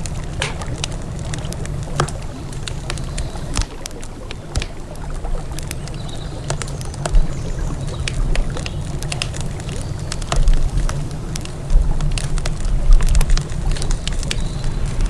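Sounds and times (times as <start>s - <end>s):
campfire crackling and popping: 0.0s - 15.0s
river water rumbling: 0.0s - 15.0s.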